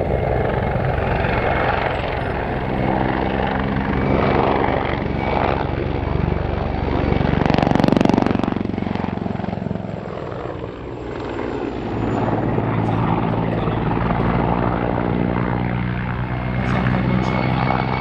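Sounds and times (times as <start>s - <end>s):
helicopter flying overhead: 0.0s - 18.0s.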